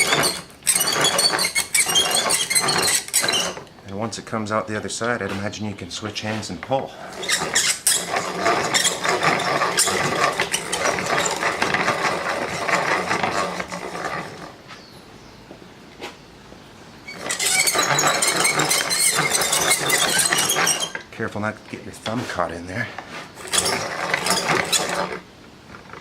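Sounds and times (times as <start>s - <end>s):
dowel cutter shaving wood: 0.0s - 14.6s, 17.1s - 21.1s, 23.3s - 26.0s.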